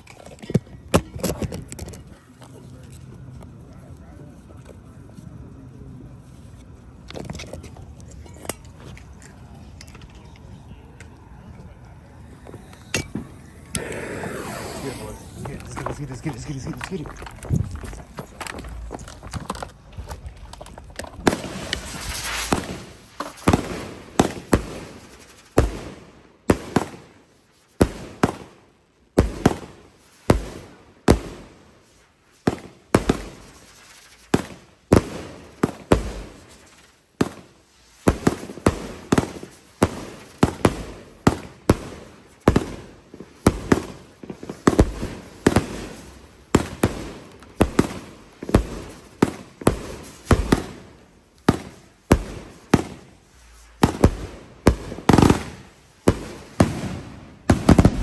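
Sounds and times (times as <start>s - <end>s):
firework hissing: 5.1s - 28.6s, 29.2s - 58.0s
firework bangs echoing: 10.7s - 58.0s.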